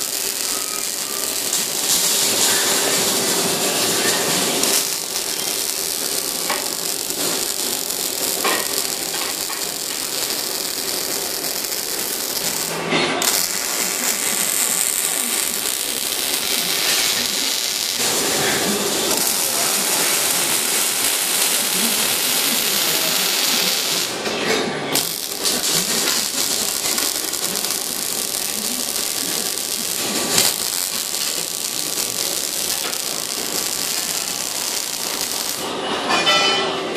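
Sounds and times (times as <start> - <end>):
welding arc crackling hiss: 0.0 - 24.3, 24.9 - 35.8.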